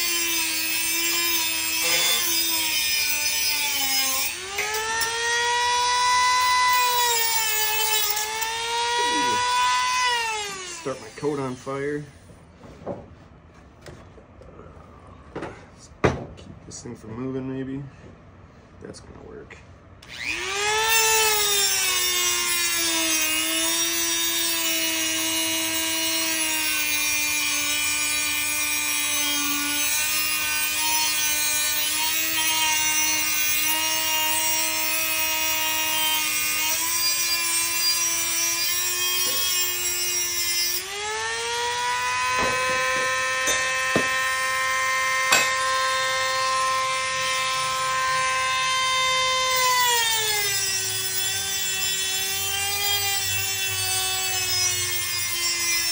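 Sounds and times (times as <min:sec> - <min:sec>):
rotary tool cutting wire: 0:00.0 - 0:11.5, 0:20.0 - 0:55.9.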